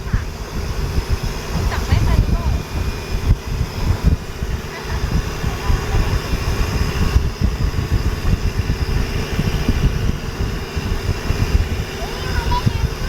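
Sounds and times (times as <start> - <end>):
boat engine running: 0.0 - 13.0
wind rumble on microphone: 0.0 - 13.0.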